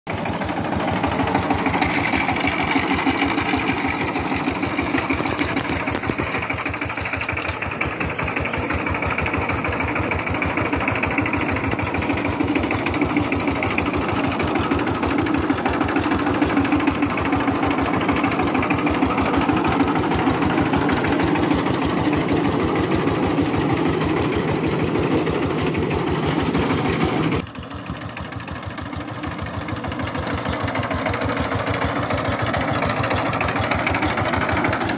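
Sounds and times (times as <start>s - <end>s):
diesel engine knocking: 0.1s - 34.9s.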